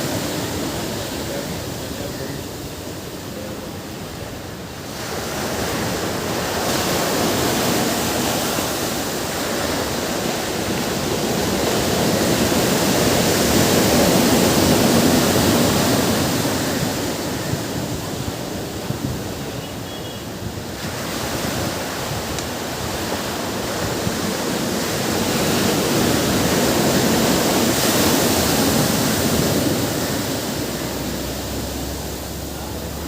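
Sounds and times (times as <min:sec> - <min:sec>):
ocean surf washing onto beach: 0:00.0 - 0:33.0.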